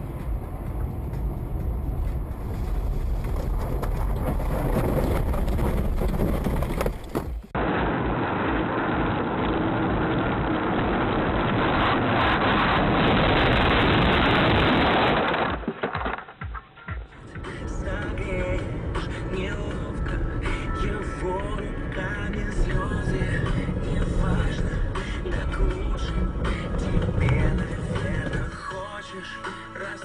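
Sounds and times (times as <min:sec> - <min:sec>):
road and wind noise in car: 0:00.0 - 0:15.6, 0:17.0 - 0:30.0.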